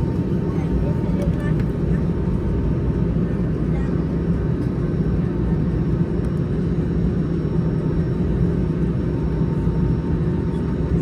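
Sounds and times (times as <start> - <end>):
aircraft cabin rumble: 0.0 - 11.0.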